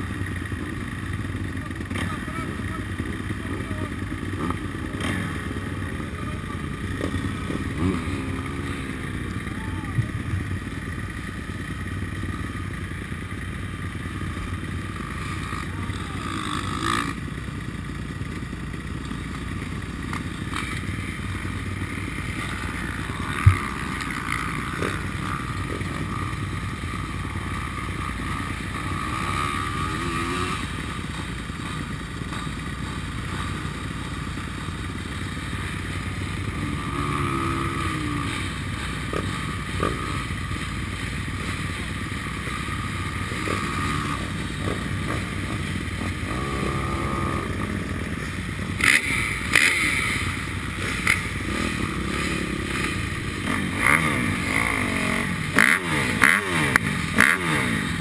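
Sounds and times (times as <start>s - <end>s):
dirt bike engines idling: 0.0s - 58.0s.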